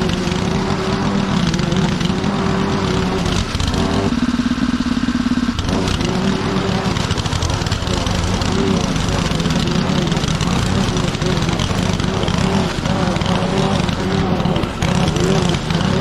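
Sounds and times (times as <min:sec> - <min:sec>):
lawn mower engine cutting grass: 0:00.0 - 0:16.0.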